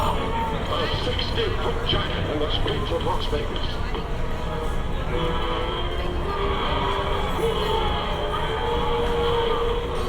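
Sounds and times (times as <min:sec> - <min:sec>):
murmur of diners: 0:00.0 - 0:10.0.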